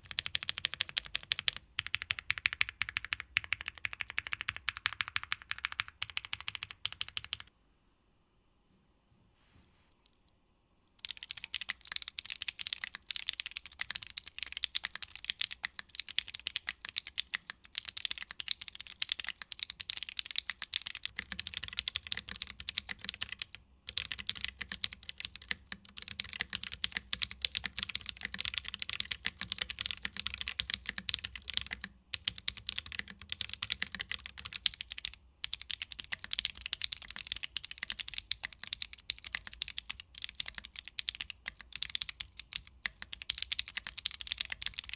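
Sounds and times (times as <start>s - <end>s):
fast typing on mechanical keyboard: 0.0s - 7.5s, 11.0s - 44.9s.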